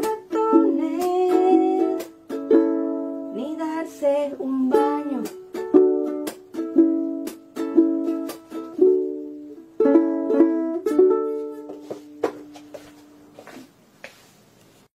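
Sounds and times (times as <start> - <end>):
ukulele strumming chords: 0.0 - 12.9.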